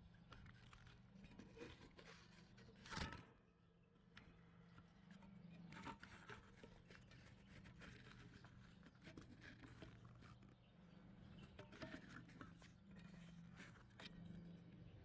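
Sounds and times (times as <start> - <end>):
soft ticks and rustles: 0.0 - 3.2, 4.1 - 15.0.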